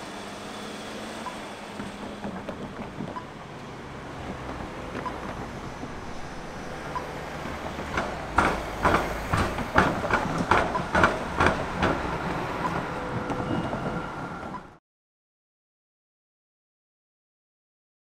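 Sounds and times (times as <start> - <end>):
passing traffic rumble: 0.0 - 14.8
tram wheels clacking over crossing: 0.0 - 14.8.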